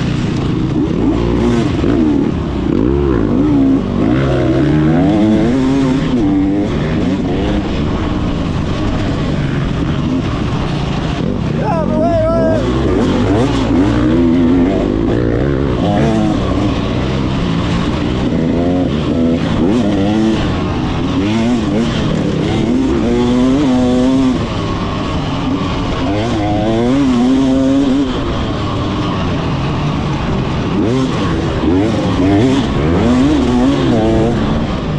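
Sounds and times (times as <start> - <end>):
motocross bike engine revving: 0.0 - 34.9.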